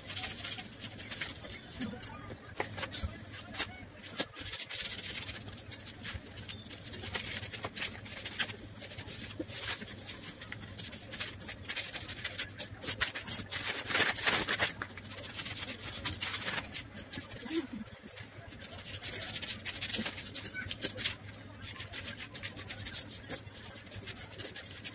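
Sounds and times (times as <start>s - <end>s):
paper rustling: 0.0s - 24.9s
scissors snipping paper: 0.0s - 24.9s.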